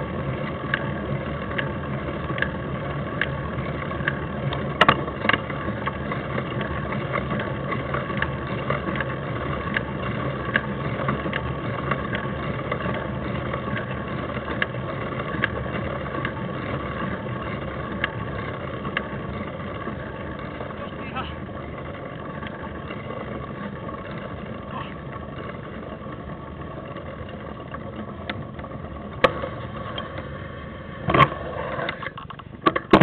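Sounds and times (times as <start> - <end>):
bike clicks and rattles: 0.0 - 33.0
rumble of tyres and wind: 0.0 - 33.0.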